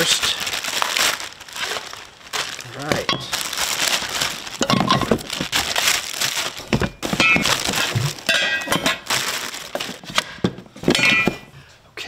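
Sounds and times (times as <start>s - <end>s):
plastic bags crinkling: 0.0s - 11.6s.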